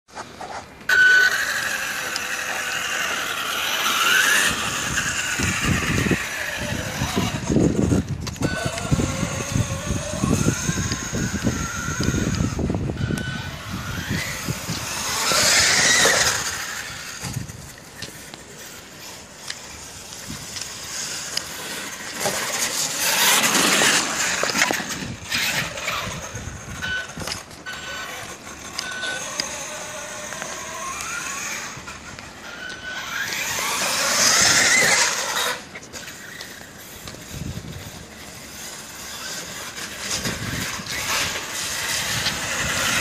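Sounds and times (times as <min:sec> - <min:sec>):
electric motor whining: 0:00.8 - 0:43.0.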